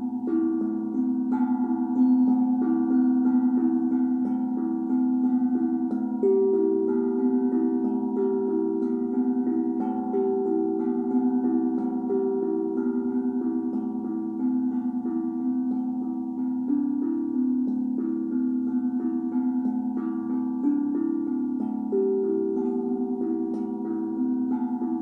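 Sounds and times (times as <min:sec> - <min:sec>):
steel tongue drum melody: 0:00.0 - 0:25.0.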